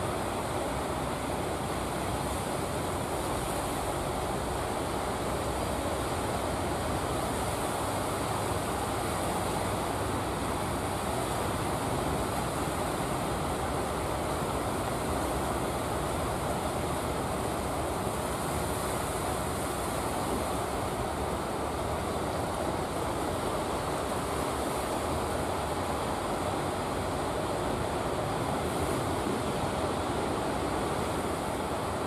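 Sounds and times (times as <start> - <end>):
wind: 0.0 - 32.0.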